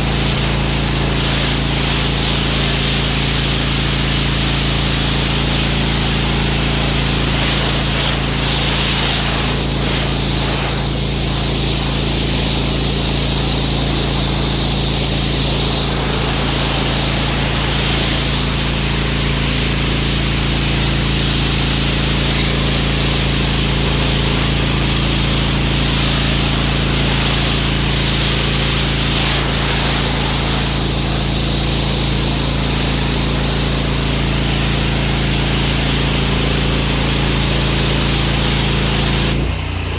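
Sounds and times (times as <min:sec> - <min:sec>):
water jet hissing: 0:00.0 - 0:39.6
pressure washer motor drone: 0:00.0 - 0:39.9.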